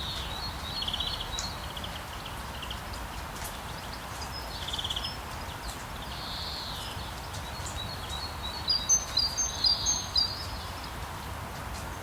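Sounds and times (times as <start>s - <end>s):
songbirds calling: 0.0s - 11.1s.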